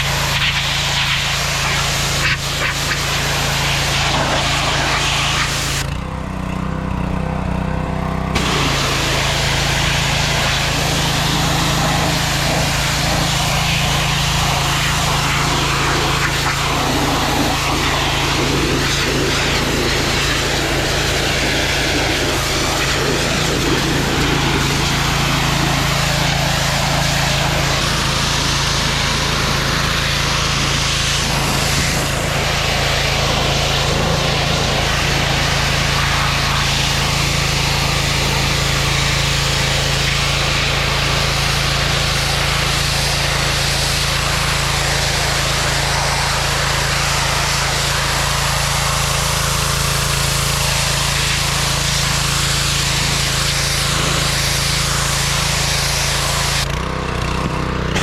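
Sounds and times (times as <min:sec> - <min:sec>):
machine motor humming: 0:05.5 - 0:56.7.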